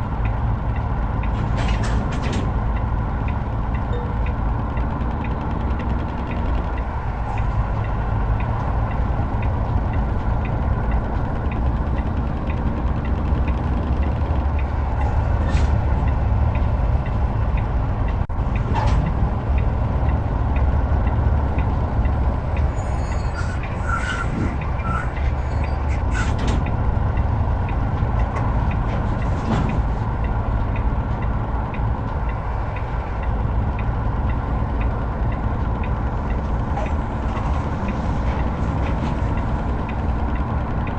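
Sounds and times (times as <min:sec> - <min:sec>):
heavy truck engine drone: 0:00.0 - 0:40.9
road rumble: 0:00.0 - 0:40.9.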